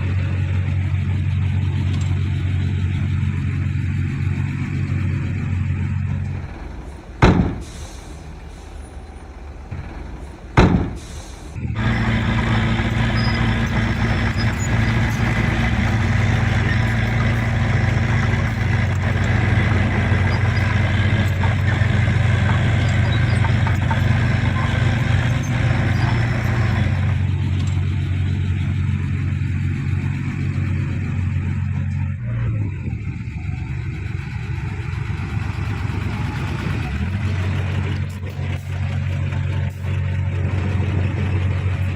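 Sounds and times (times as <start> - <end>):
heavy diesel engine running: 0.0 - 41.9
higher-pitched engine clatter: 0.0 - 41.9.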